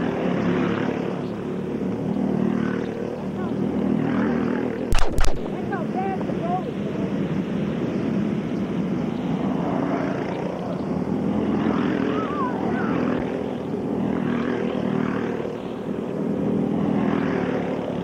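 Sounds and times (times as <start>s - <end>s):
go-kart engines buzzing: 0.0s - 18.0s.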